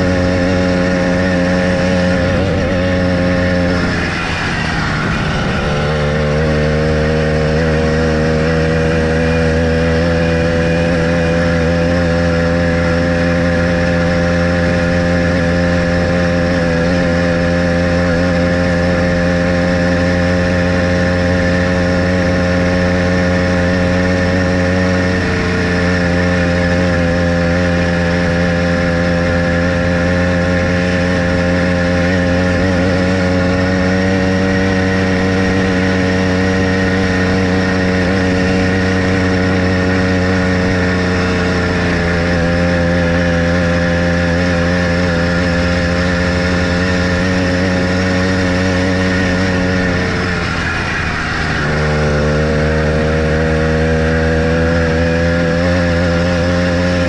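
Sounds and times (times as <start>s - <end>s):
small motorbike engine running: 0.0s - 57.0s.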